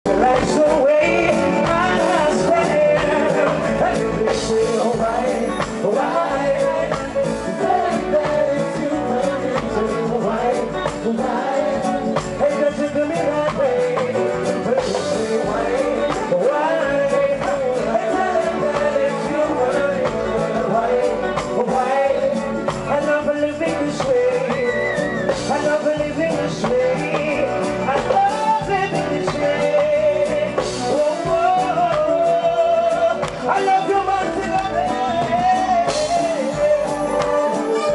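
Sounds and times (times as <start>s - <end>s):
man singing: 0.0s - 37.9s
reggae band playing: 0.0s - 37.9s.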